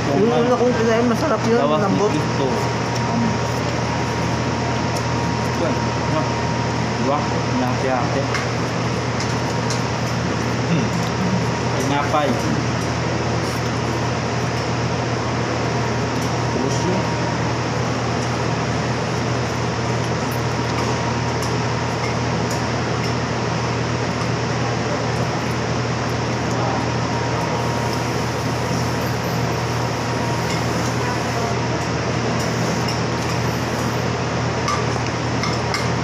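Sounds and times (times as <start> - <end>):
air conditioning hum: 0.0 - 36.0.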